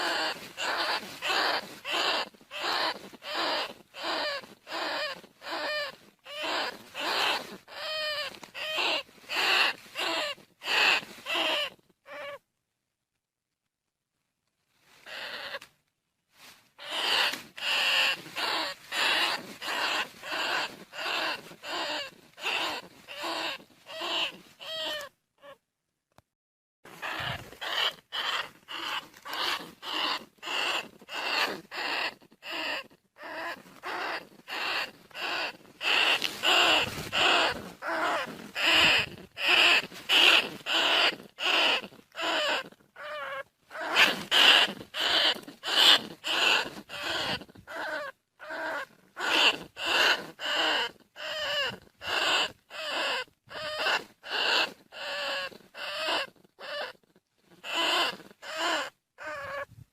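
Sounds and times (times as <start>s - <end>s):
rat squeaking: 0.0s - 12.4s, 15.0s - 15.7s, 16.8s - 25.6s, 26.9s - 59.7s.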